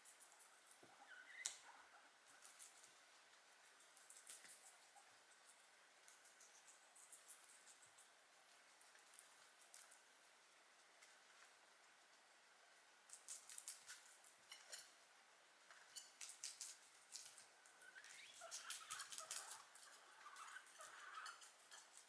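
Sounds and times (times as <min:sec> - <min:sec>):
guinea pig squeaking: 0:00.0 - 0:10.1, 0:13.1 - 0:15.0, 0:15.8 - 0:22.0
guinea pigs chewing: 0:00.0 - 0:22.0.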